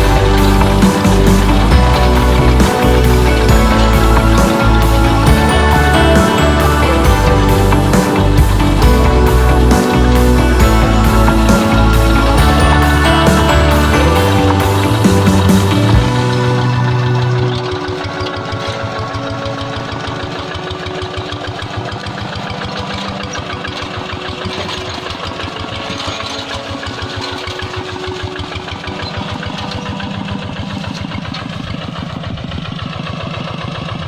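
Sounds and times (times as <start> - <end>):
single-cylinder diesel engine running: 0.0 - 34.0.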